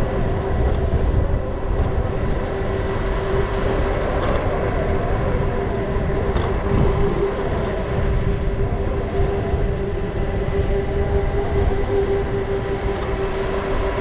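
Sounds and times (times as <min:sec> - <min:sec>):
electric motor whine: 0:00.0 - 0:14.0
wind buffeting microphone: 0:00.0 - 0:14.0.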